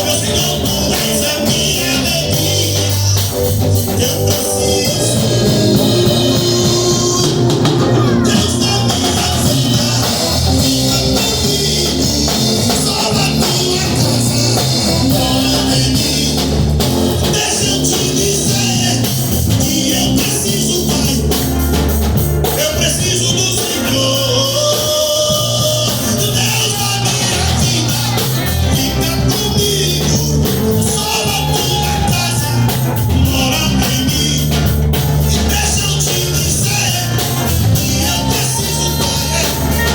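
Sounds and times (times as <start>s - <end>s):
band playing drums and guitars: 0.0s - 39.9s
bass notes: 0.0s - 39.9s
person singing: 0.0s - 39.9s.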